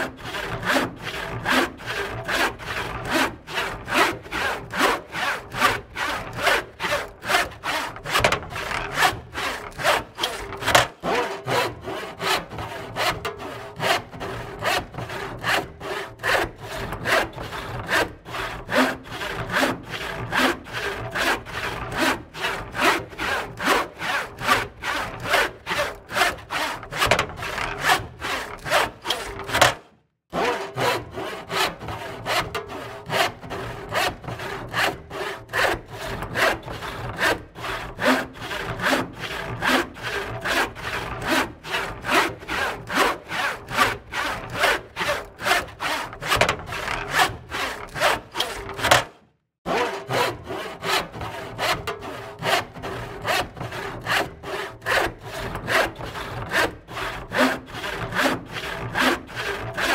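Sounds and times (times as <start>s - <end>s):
hand saw cutting wood: 0.0s - 59.9s.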